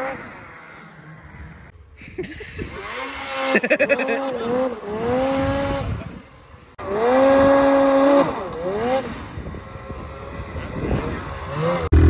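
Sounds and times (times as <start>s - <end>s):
snowmobile engine running hard: 0.0s - 12.0s.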